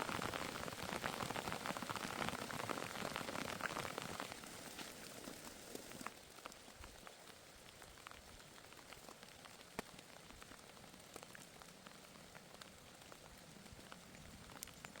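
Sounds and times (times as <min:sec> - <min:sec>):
faint rain hiss: 0:00.0 - 0:15.0
raindrops ticking: 0:00.0 - 0:15.0.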